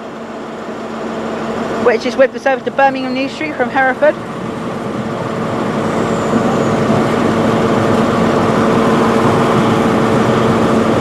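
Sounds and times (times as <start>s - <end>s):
diesel train engines droning: 0.0s - 11.0s.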